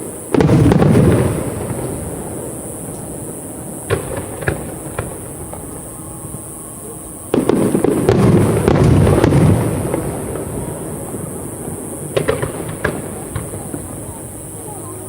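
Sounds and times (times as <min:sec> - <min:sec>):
fireworks bangs: 0:00.0 - 0:15.0
fireworks volley exploding: 0:00.0 - 0:15.0.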